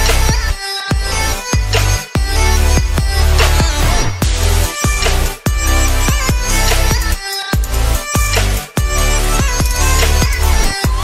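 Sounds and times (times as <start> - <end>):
electronic music with bass beat: 0.0 - 11.0.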